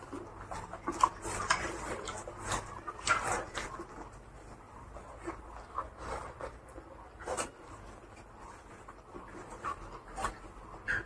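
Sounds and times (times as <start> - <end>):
chewing and mouth sounds: 0.0 - 11.0
hand mixing rice and curry: 0.0 - 11.0.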